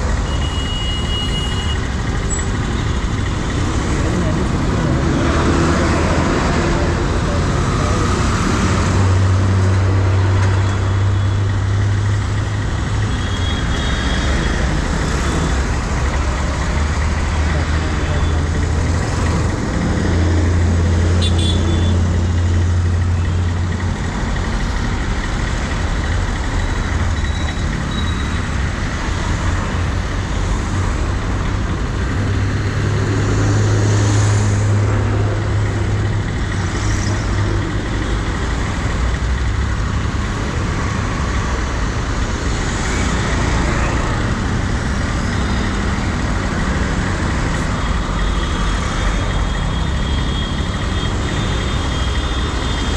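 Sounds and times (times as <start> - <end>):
motorcycle engine humming: 0.0 - 8.4, 10.4 - 33.2, 34.8 - 52.9
road traffic noise: 0.0 - 52.9.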